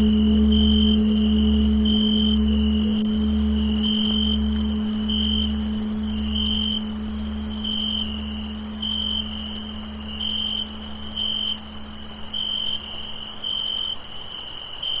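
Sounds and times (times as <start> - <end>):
crickets chirping: 0.0 - 15.0
high insect trill: 0.0 - 15.0
meditation bell hum: 0.0 - 15.0.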